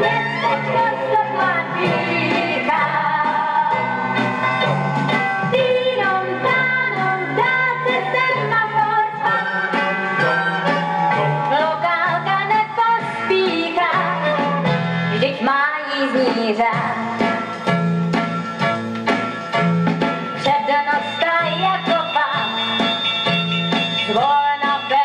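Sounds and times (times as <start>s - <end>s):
instrumental dance orchestra music: 0.0s - 25.0s.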